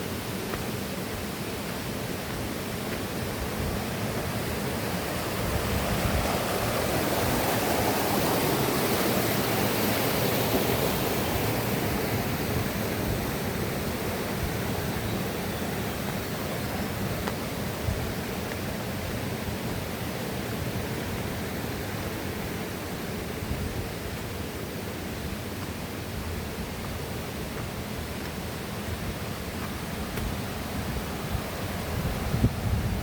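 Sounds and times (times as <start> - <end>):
river water rushing over rocks: 0.0 - 33.0.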